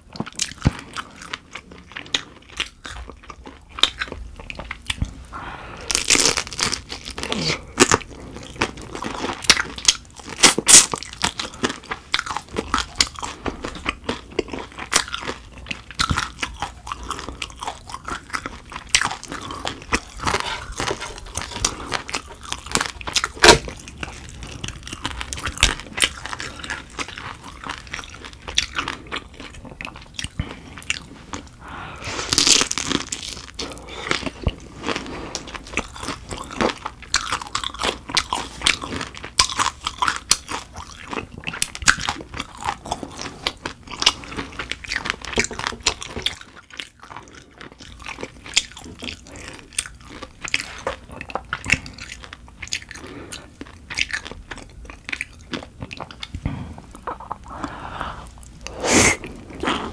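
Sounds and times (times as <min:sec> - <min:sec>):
crunching shrimp shells: 0:05.9 - 0:31.5, 0:32.3 - 0:58.8.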